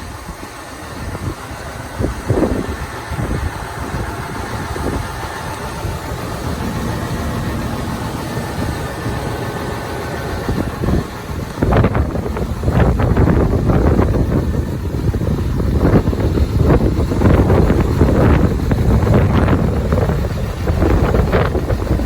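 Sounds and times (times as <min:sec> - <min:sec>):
tractor diesel engine idling: 0:00.0 - 0:22.0
wind buffeting microphone: 0:00.0 - 0:22.0.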